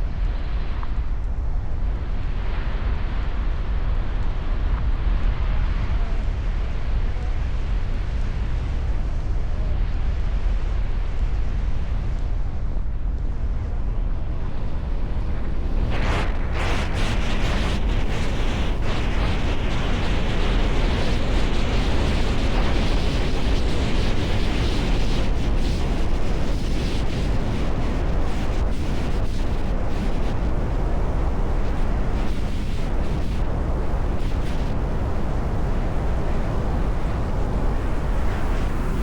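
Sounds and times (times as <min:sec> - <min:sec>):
strong wind buffeting microphone: 0:00.0 - 0:39.0.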